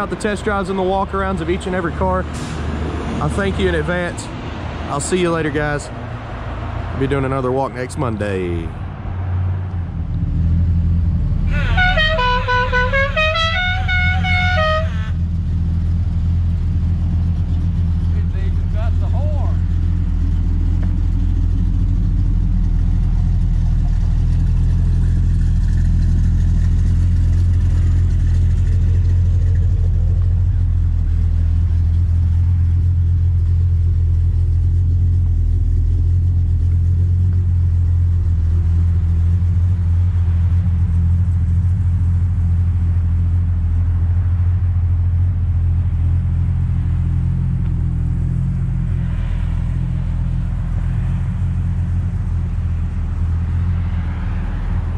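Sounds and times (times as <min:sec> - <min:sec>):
car engine idling: 0:00.0 - 0:02.6, 0:03.2 - 0:54.0.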